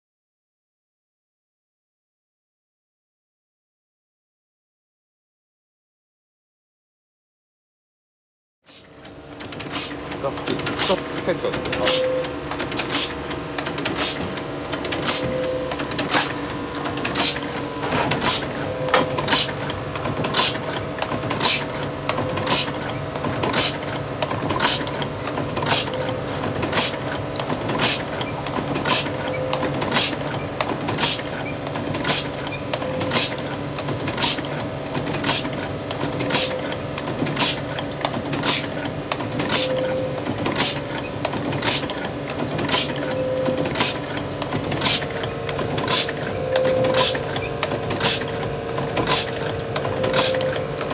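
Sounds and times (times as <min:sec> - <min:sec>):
machine humming: 0:08.9 - 0:50.9
machine plungers clacking: 0:08.9 - 0:50.9.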